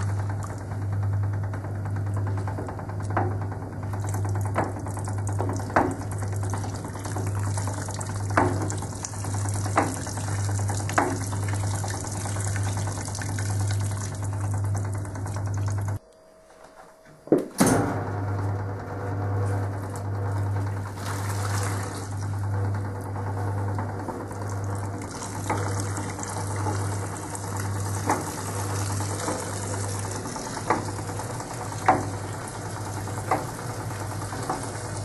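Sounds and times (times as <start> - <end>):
water running off laundry: 0.0 - 1.0, 1.8 - 16.0, 19.7 - 35.0
washing machine motor humming: 0.0 - 35.0.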